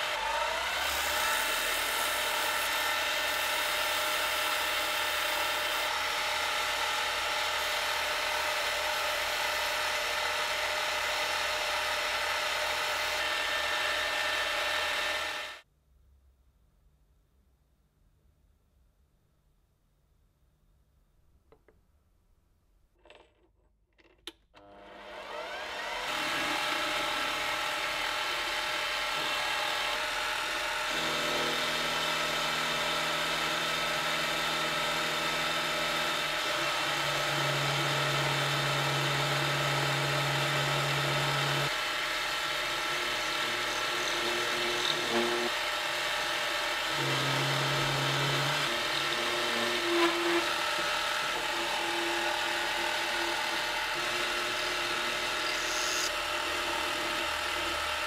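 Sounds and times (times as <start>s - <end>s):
metal lathe whining: 0.0s - 15.6s, 24.8s - 58.0s.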